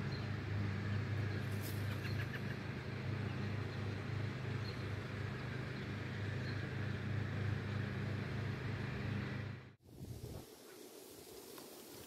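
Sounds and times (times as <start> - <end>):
faint outdoor hiss: 0.0 - 12.0
low mechanical hum: 0.0 - 12.0.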